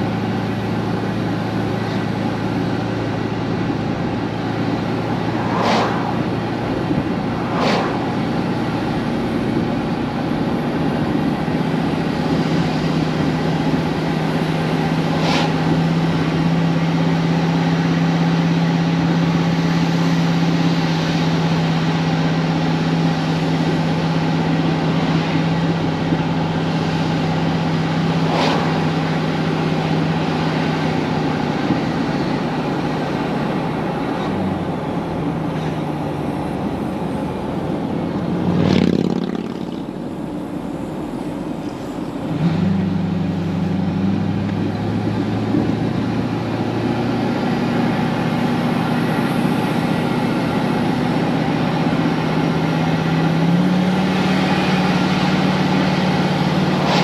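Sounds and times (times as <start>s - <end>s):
tyre and road noise: 0.0s - 57.0s
vehicle engine drone: 0.0s - 57.0s.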